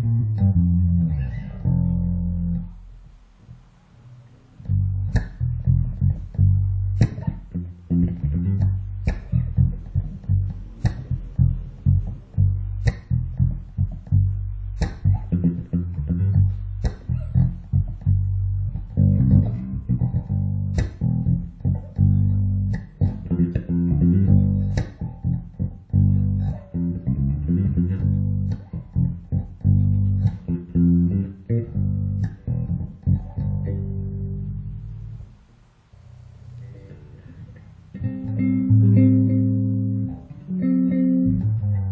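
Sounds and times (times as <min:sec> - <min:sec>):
electric bass low notes: 0:00.0 - 0:41.9.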